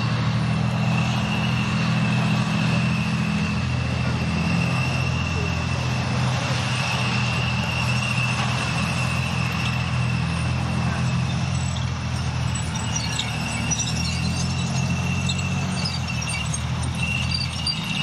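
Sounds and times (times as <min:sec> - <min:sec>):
tank diesel engine: 0:00.0 - 0:18.0
tracks squeaking and clinking: 0:00.0 - 0:18.0.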